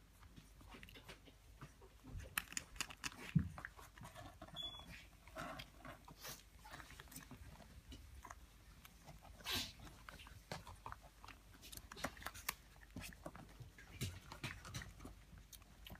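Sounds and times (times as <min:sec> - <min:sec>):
puppies suckling: 0:00.0 - 0:15.9.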